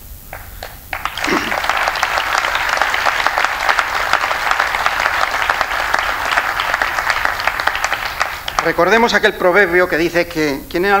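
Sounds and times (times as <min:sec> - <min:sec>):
audience applauding: 0:00.4 - 0:10.0.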